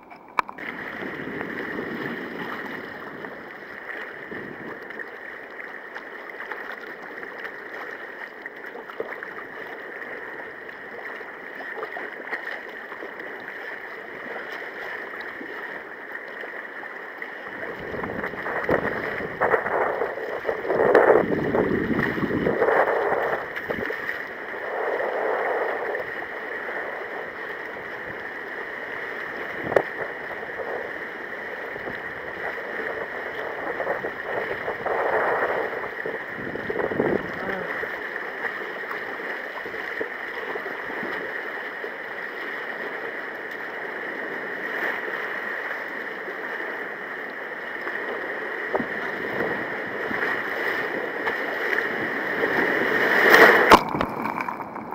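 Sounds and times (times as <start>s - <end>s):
sea water sloshing and splashing: 0.0s - 54.9s.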